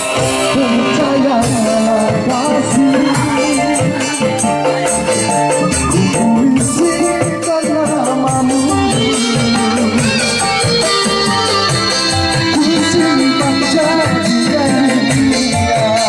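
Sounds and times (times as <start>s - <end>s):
keyboard: 0.0s - 16.0s.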